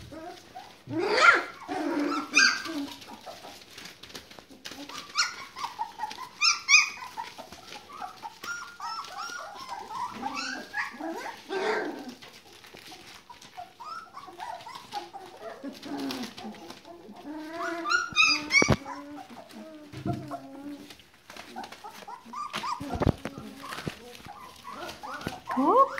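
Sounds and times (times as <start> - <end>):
puppies whimpering and yelping: 0.0 - 25.9.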